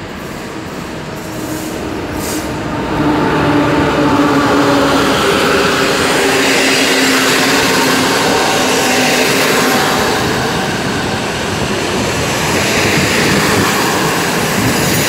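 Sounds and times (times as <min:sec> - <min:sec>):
electric locomotive passing: 0:00.0 - 0:15.0.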